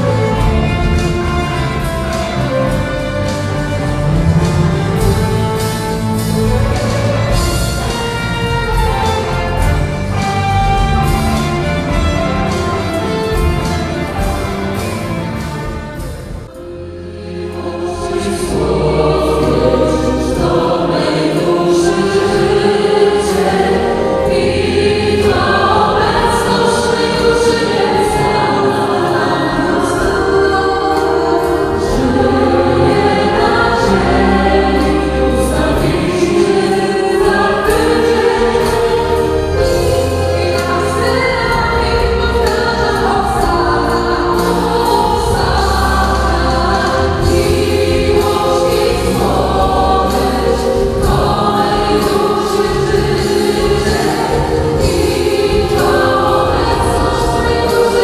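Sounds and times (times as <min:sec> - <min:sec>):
choir singing in harmony: 0:00.0 - 0:58.0
instrumental accompaniment with low bass: 0:00.0 - 0:58.0.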